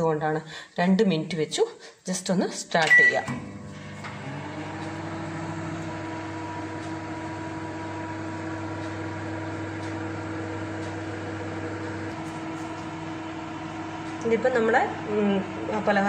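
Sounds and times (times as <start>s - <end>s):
microwave oven humming: 2.9s - 16.0s.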